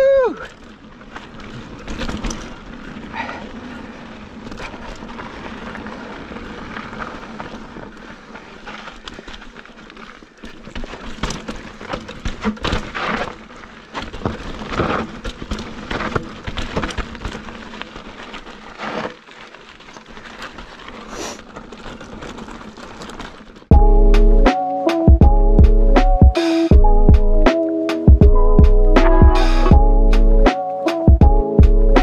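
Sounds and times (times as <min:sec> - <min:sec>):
bike tyres crunching on gravel: 0:00.0 - 0:26.1
bike knocking and rattling: 0:00.3 - 0:32.0.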